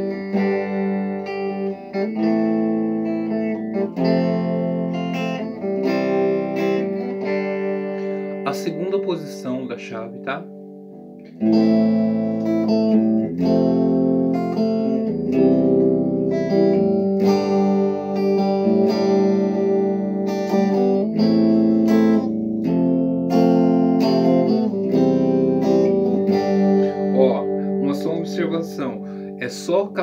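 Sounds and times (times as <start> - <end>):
electric guitar chords strummed: 0.0 - 30.0.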